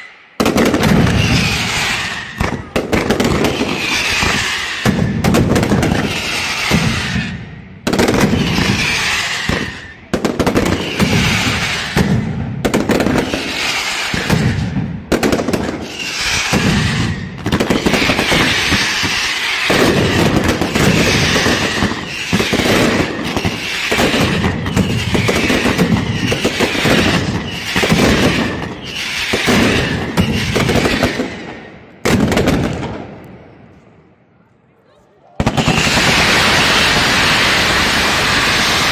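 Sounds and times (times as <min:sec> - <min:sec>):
firecrackers banging: 0:00.0 - 0:33.5, 0:35.4 - 0:38.9.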